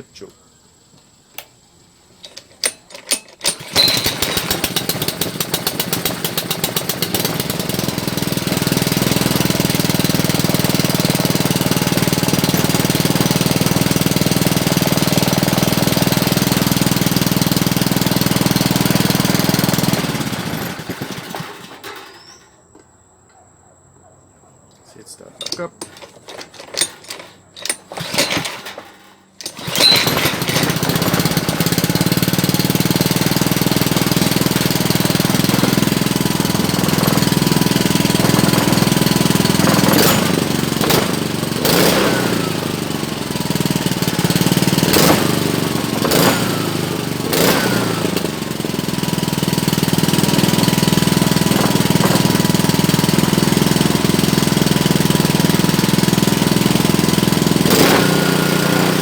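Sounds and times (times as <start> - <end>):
small engine running: 2.2 - 22.5, 25.4 - 59.0.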